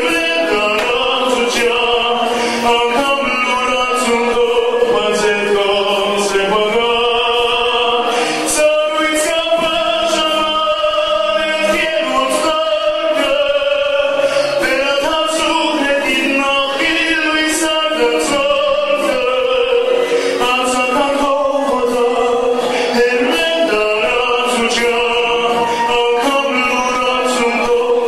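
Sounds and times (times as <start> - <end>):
man singing with vibrato: 0.0 - 28.0.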